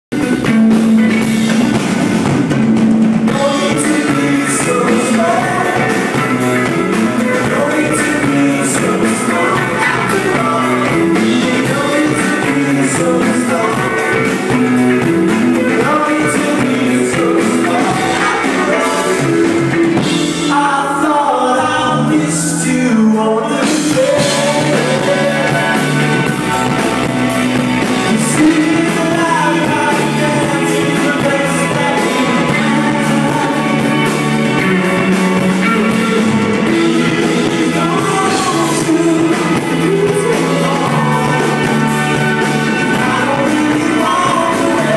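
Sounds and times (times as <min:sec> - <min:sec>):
drums: 0:00.0 - 0:44.9
live rock band playing: 0:00.1 - 0:44.9
person singing: 0:03.1 - 0:44.9.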